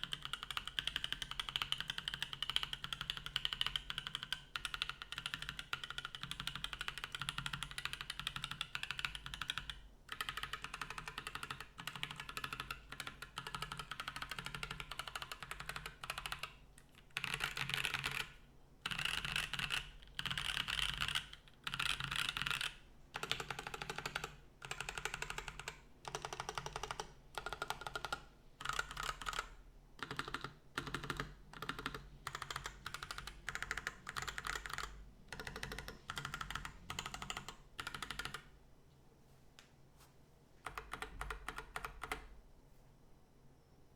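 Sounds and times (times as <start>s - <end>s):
typing on mechanical keyboard: 0.0s - 38.5s, 40.6s - 42.3s.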